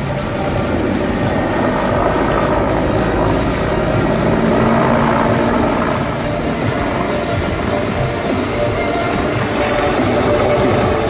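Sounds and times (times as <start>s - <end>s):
helicopter drone: 0.0s - 11.0s.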